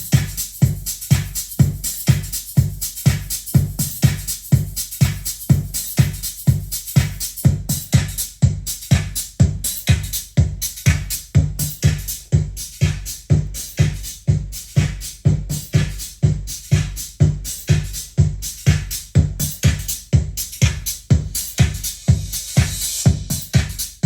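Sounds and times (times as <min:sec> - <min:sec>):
electronic dance music: 0:00.0 - 0:24.0.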